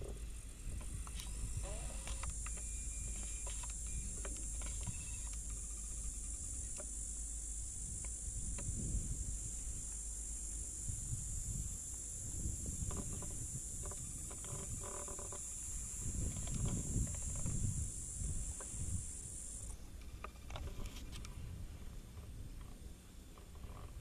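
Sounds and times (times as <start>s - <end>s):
insects chirping chorus: 0.0s - 21.4s, 22.4s - 24.0s.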